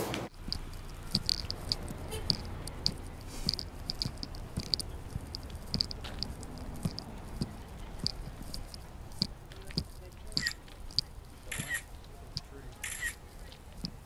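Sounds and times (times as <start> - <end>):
person chewing: 0.3 - 12.4.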